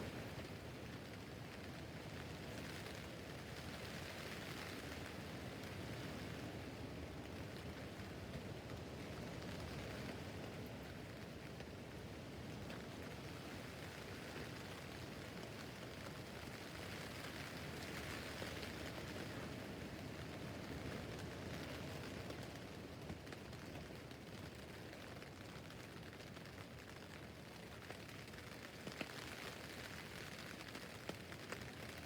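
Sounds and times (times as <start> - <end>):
rain pattering on tent fabric: 0.0 - 32.0.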